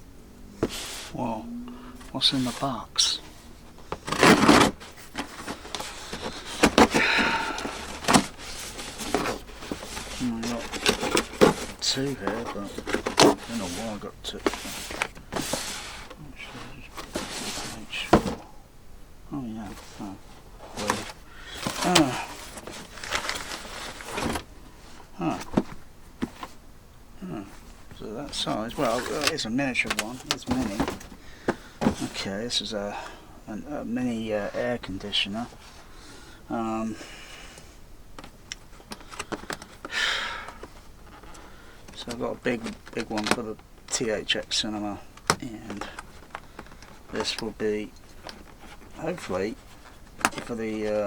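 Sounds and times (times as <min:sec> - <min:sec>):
cardboard scraping rustle: 0:00.5 - 0:01.2, 0:01.8 - 0:18.5, 0:19.4 - 0:26.6, 0:27.3 - 0:33.2, 0:40.5 - 0:51.0.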